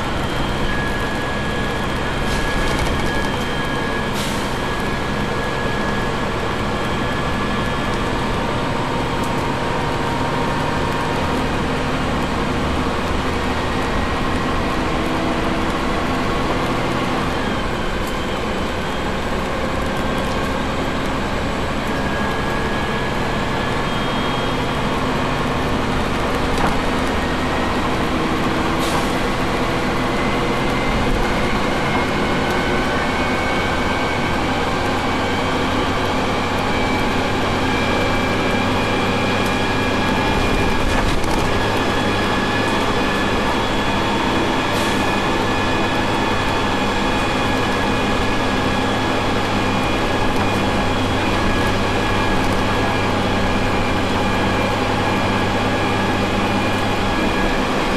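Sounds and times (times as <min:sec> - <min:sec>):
bus engine drone: 0:00.0 - 0:57.9
gearbox whine rising in pitch: 0:00.0 - 0:57.9.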